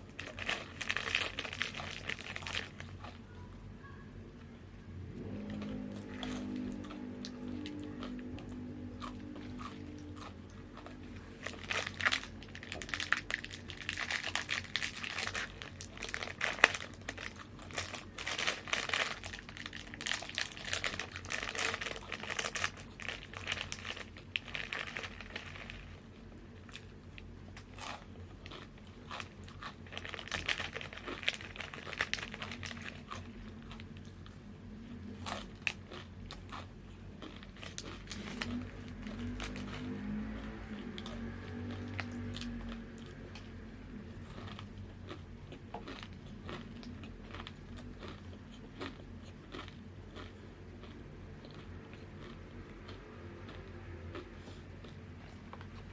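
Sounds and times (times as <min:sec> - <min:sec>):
chewing crunchy chips: 0:00.0 - 0:03.6, 0:05.1 - 0:55.9.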